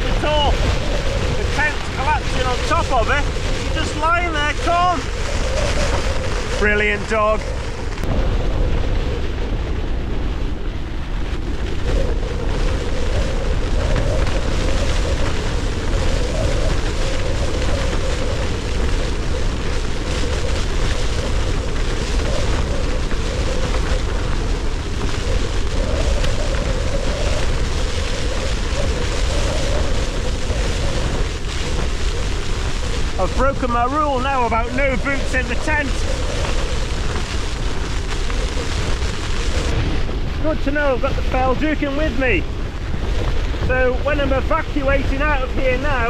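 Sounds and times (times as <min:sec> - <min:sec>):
tent fabric shaking: 0:00.0 - 0:10.5, 0:11.2 - 0:46.0
storm wind battering a tent: 0:00.0 - 0:46.0
wind rumble on microphone: 0:00.0 - 0:46.0.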